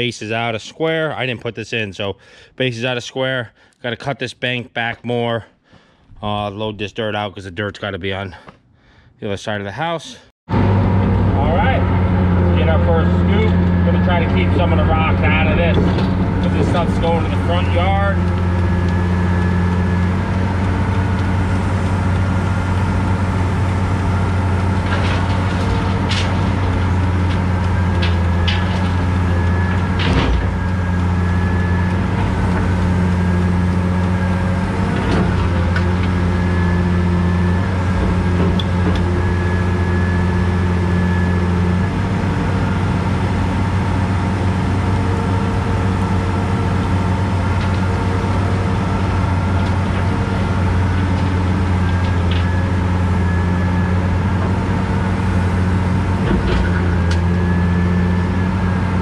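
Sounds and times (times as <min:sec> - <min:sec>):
excavator diesel engine running: 0:10.5 - 0:59.0
hydraulic whine: 0:10.5 - 0:59.0.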